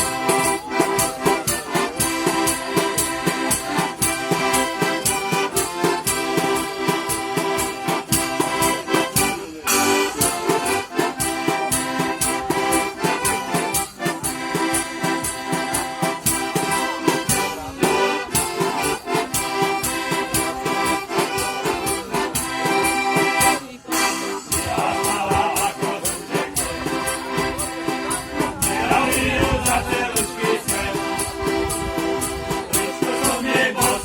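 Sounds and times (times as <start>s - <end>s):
folk band with accordion: 0.0s - 34.0s.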